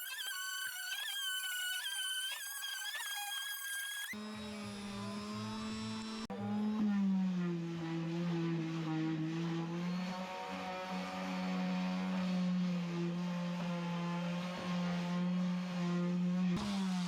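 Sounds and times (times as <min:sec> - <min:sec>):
electric sander motor humming: 0:00.0 - 0:17.0.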